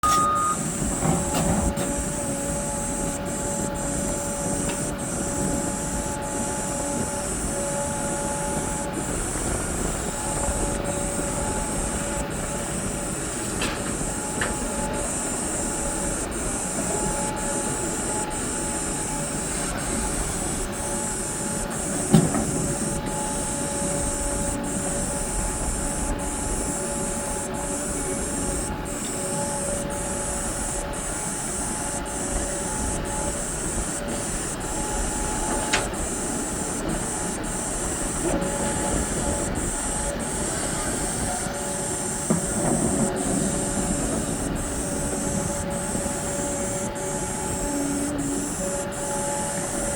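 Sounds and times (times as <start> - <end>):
excavator diesel engine: 0.0 - 49.9
hydraulics whine and hiss: 0.0 - 49.9.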